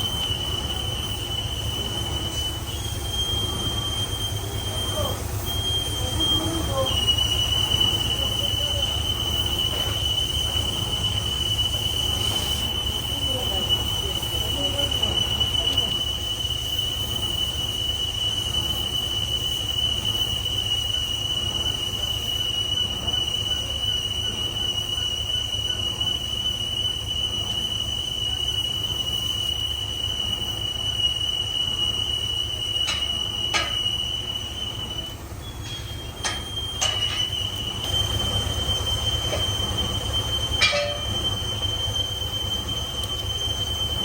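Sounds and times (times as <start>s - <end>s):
high-pitched metallic squeal: 0.0s - 44.0s.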